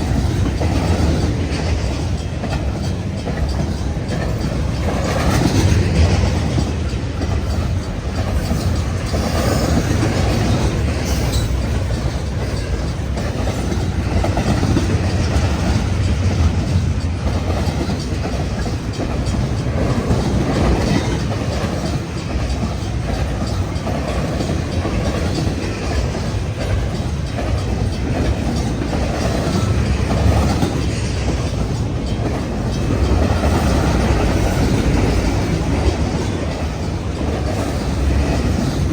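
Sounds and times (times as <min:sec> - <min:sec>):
clickety-clack over rail joints: 0:00.0 - 0:38.9
freight train wheels rumbling: 0:00.0 - 0:38.9.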